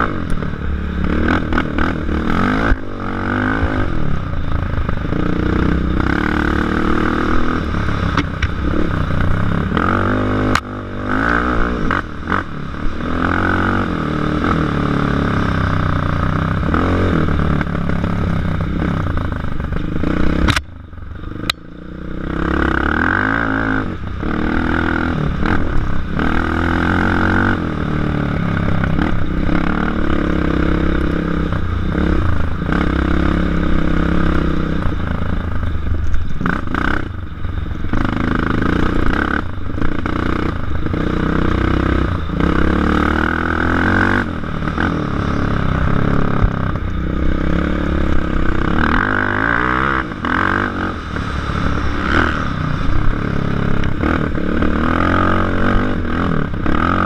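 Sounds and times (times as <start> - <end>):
quad engine revving: 0.0 - 4.2, 5.0 - 19.0, 21.3 - 35.2, 37.9 - 57.0.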